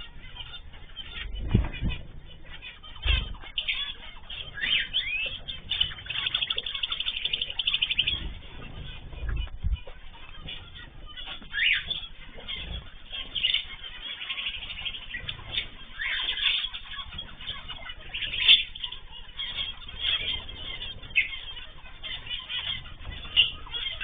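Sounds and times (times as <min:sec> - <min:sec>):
cage birds chirping: 0:00.0 - 0:24.0.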